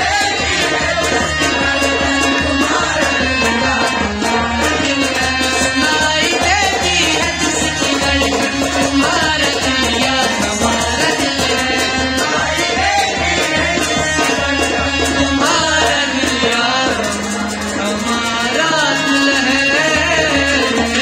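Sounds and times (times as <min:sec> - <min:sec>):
boys singing: 0:00.0 - 0:21.0
hand drum beat: 0:00.0 - 0:21.0
man singing folk song: 0:00.0 - 0:21.0.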